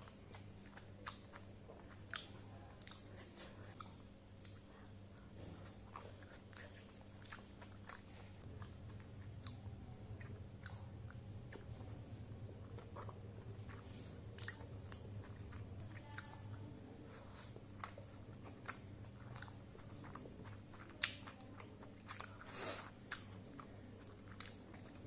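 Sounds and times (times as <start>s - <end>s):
steady low hum: 0.0s - 25.0s
wet chewing sounds: 0.0s - 25.0s.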